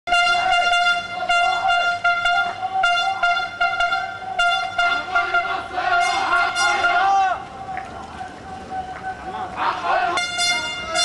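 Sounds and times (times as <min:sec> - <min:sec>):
horn blasts: 0:00.1 - 0:07.5, 0:08.1 - 0:11.0.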